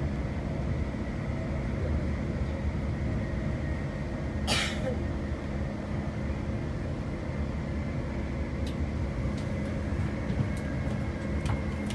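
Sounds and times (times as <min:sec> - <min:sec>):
electric train running at speed: 0:00.0 - 0:11.9.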